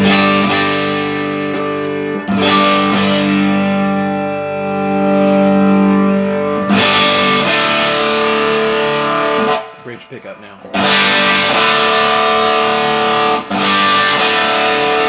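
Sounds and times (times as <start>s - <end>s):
overdriven electric guitar chords: 0.0s - 15.0s.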